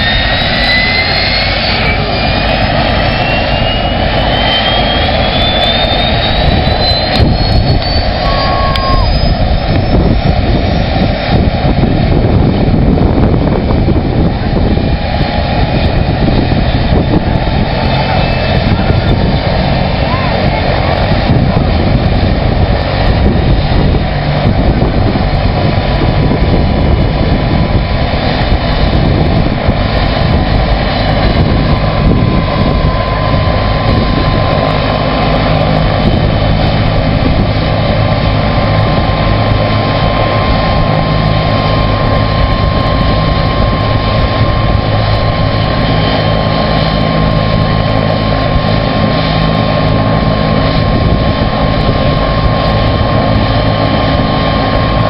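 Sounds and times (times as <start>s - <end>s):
engine and rotor rumble: 0.0s - 55.0s
helicopter turbine whine: 0.0s - 55.0s.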